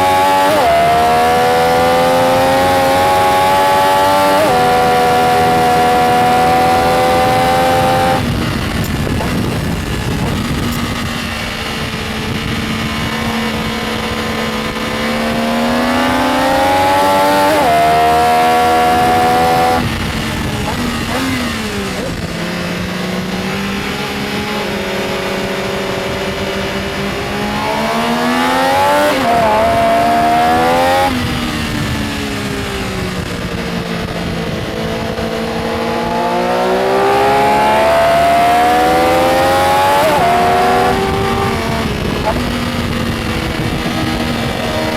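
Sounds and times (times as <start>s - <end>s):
motorcycle engine revving through gears: 0.0s - 44.9s.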